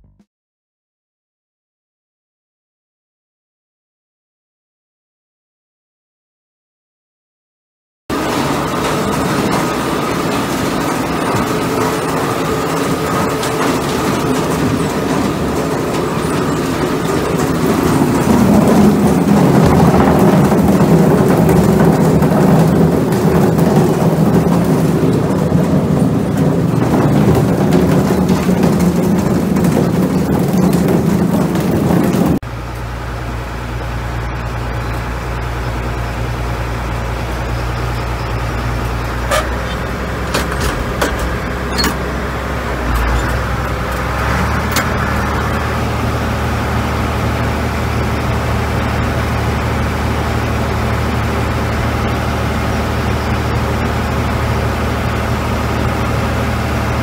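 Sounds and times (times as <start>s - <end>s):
vehicle engine running: 8.1s - 57.0s.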